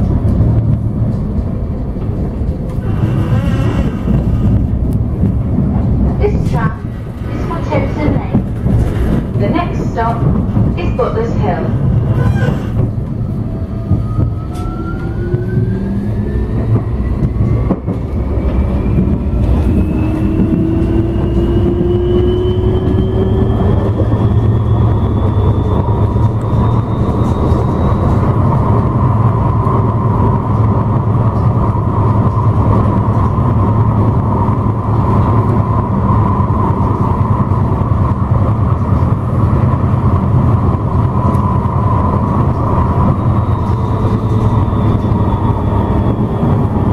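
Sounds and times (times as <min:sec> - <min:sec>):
tram rumbling: 0:00.0 - 0:46.9.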